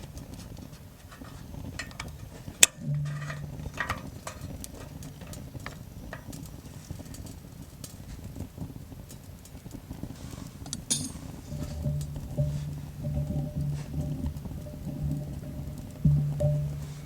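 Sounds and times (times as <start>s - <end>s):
sharp pops and ticks: 0.0s - 16.9s
wood fire crackling: 0.0s - 17.0s.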